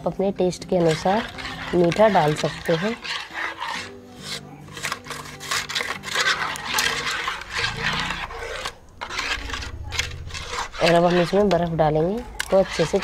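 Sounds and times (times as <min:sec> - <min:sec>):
spoon scraping metal pot: 0:00.5 - 0:13.0.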